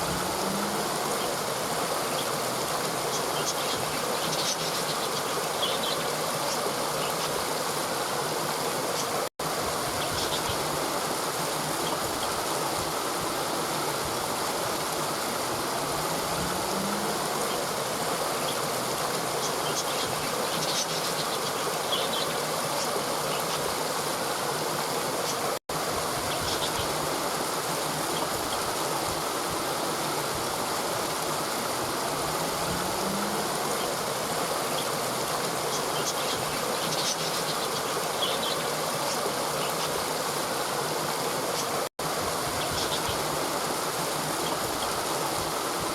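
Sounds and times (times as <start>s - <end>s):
stream flowing over rocks: 0.0s - 45.9s.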